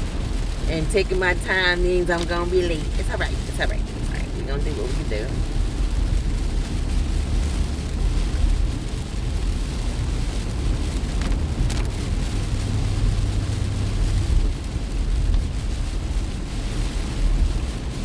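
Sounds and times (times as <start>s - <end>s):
car driving on wet road: 0.0s - 18.0s.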